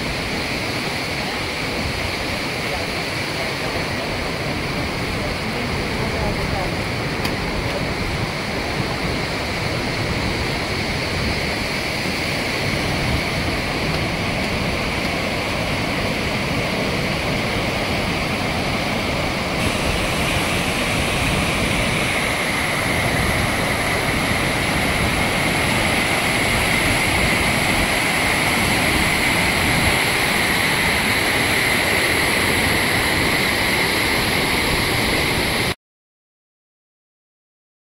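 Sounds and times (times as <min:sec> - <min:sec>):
rushing floodwater river: 0:00.0 - 0:35.8.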